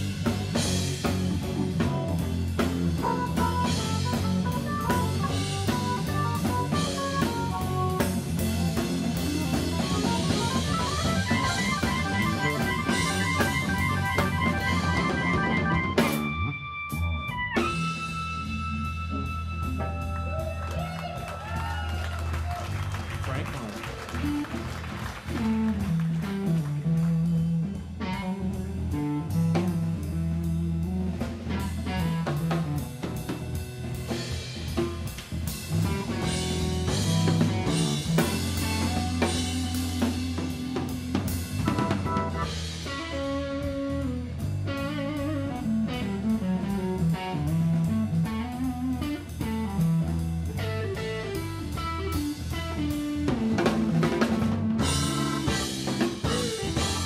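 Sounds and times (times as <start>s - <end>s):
jazz-funk band playing: 0.0s - 57.0s.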